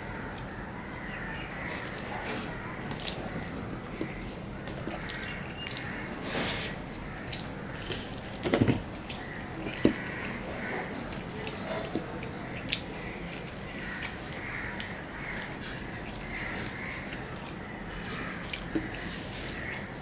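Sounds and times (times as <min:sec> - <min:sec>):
fingers squishing rice: 0:00.0 - 0:20.0
chewing and mouth smacks: 0:01.5 - 0:20.0.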